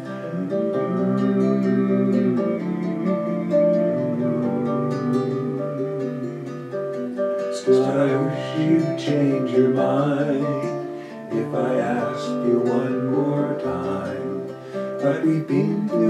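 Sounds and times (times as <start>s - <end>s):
classical guitar strumming: 0.0s - 16.0s
person singing: 0.0s - 16.0s.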